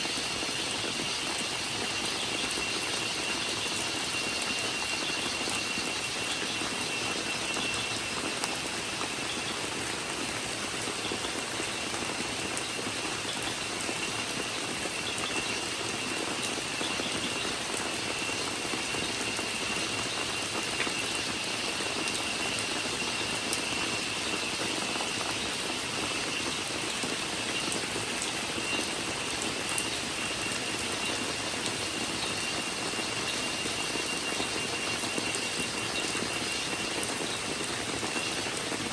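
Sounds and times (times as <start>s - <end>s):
cicada drone: 0.0s - 38.9s
rain hiss: 0.0s - 38.9s.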